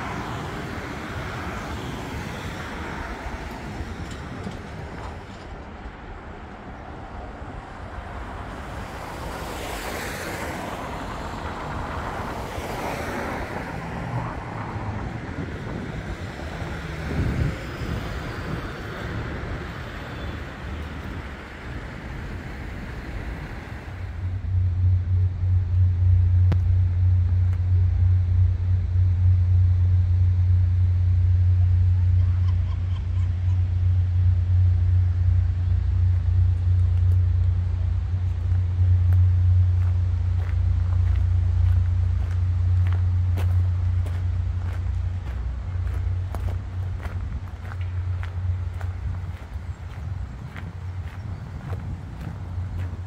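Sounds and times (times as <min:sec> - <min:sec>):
cars passing: 0:00.0 - 0:53.0
large vehicle rumble: 0:00.0 - 0:53.0.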